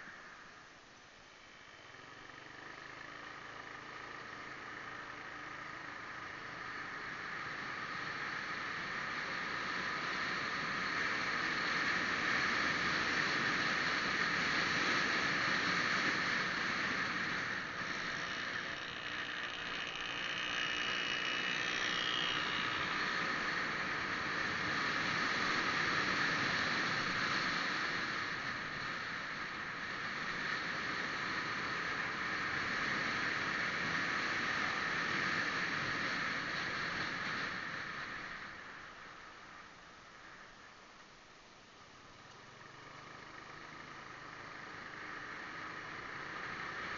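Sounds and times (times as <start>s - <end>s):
faint rising whine: 0.0s - 46.9s
vehicle engine and road noise: 0.0s - 46.9s.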